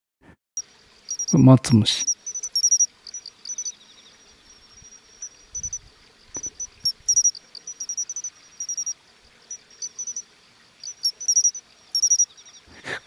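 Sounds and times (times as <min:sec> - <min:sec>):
cricket chirping: 0:00.6 - 0:12.7.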